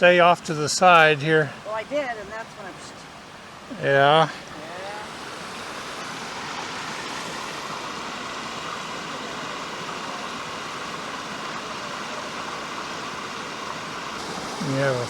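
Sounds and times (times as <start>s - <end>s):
water rushing over small falls: 0.0s - 15.0s.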